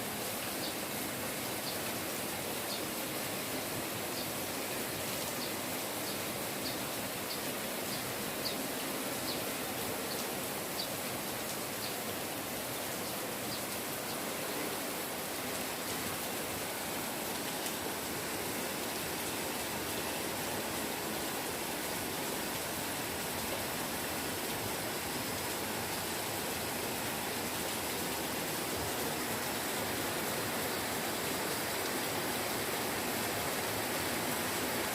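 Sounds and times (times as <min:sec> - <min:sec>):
light rain hissing: 0:00.0 - 0:34.9.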